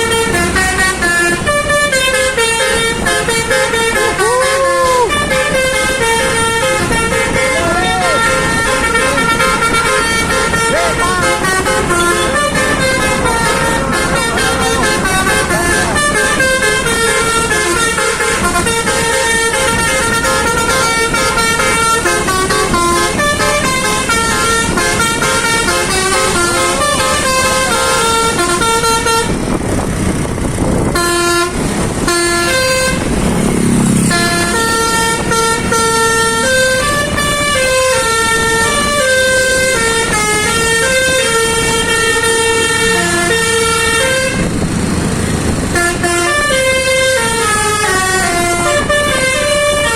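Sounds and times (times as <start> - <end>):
musical air horn playing a tune: 0.0 - 29.5, 30.9 - 33.2, 33.8 - 44.6, 45.7 - 49.9.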